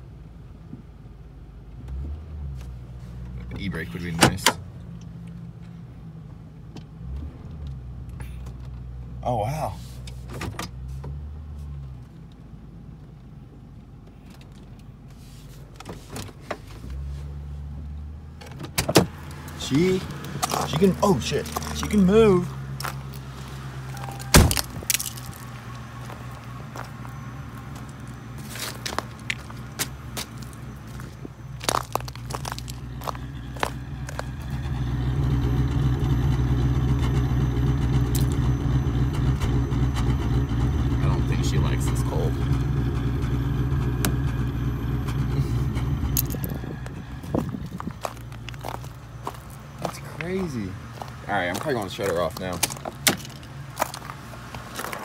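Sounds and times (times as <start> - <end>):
car engine humming: 0.0 - 55.0.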